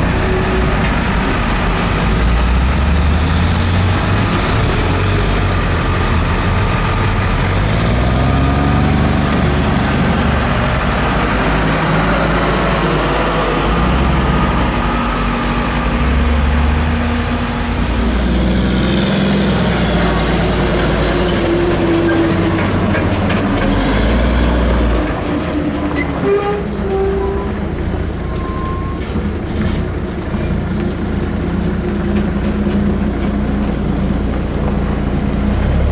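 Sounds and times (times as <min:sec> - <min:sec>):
heavy diesel engines driving off: 0:00.0 - 0:35.9.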